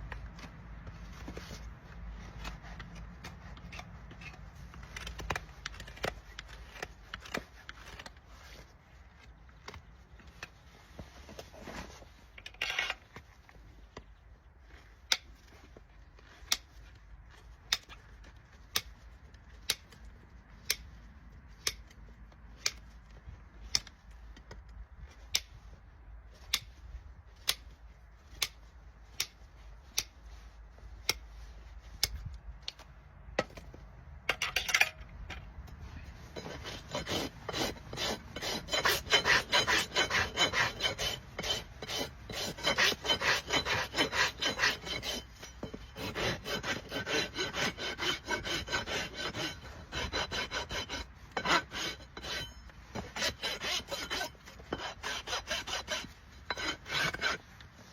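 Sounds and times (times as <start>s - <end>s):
rasp filing a hoof: 0.1s - 32.8s, 35.6s - 57.9s.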